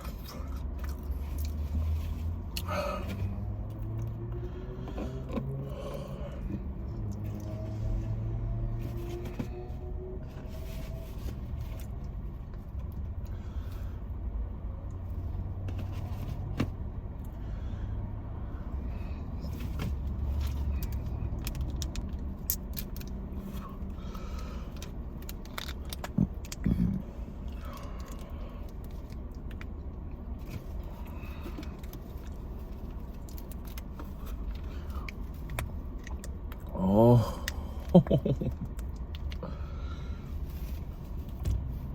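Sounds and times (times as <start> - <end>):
car interior rumble: 0.0 - 41.9.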